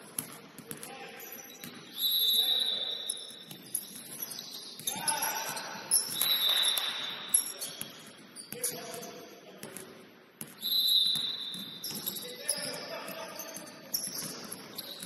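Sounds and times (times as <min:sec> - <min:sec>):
sneakers squeaking on court: 0:00.0 - 0:15.0.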